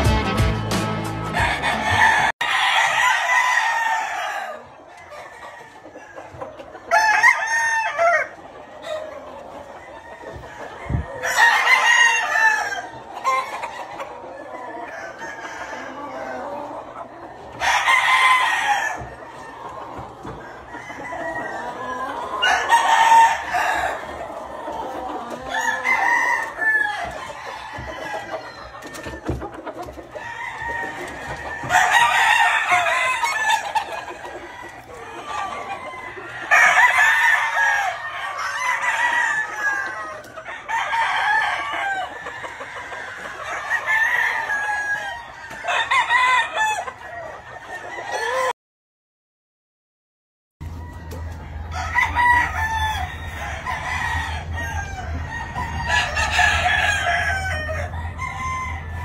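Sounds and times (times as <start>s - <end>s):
roosters crowing: 0.0s - 48.6s, 50.6s - 59.0s.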